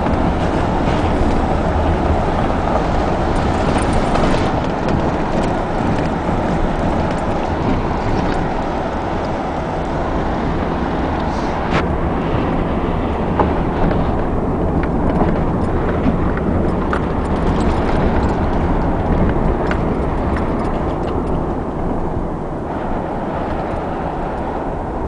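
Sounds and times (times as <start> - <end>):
engine and tyres rumbling: 0.0 - 25.0.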